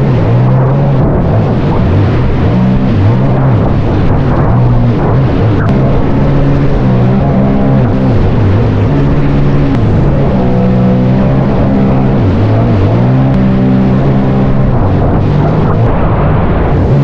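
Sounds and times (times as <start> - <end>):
jet ski engine running hard: 0.0 - 17.0
rush of water and wind: 0.0 - 17.0.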